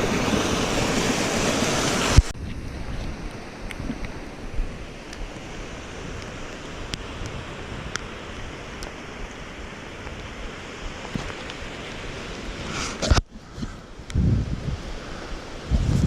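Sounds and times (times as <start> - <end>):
rain: 0.0 - 16.0
wind: 0.0 - 16.0.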